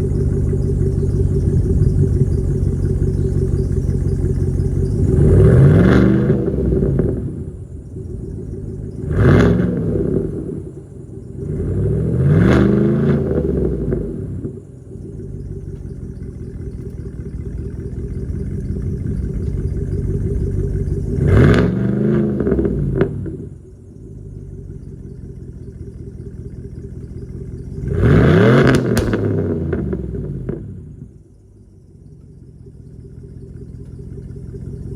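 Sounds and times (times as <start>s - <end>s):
truck engine idling and revving: 0.0s - 34.9s.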